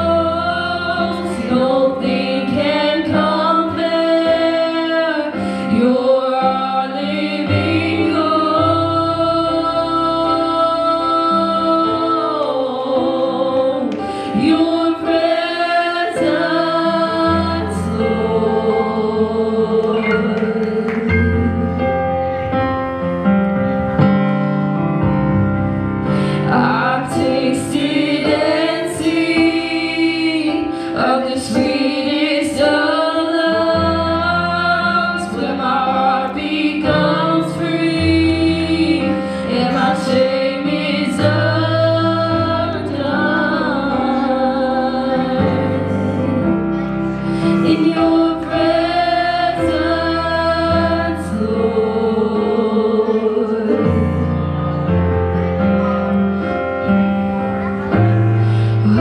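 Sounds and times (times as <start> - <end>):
women singing worship song: 0.0 - 22.0, 26.2 - 54.3, 58.6 - 59.0
electric keyboard chords: 0.0 - 59.0.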